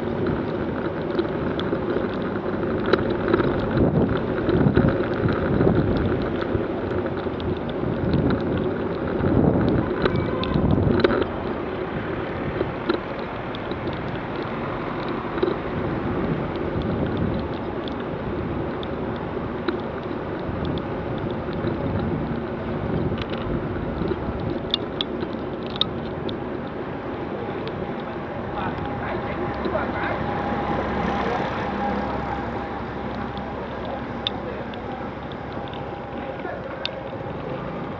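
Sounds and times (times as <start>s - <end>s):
traffic on wet roads: 0.0s - 37.9s
wind buffeting microphone: 0.0s - 37.9s.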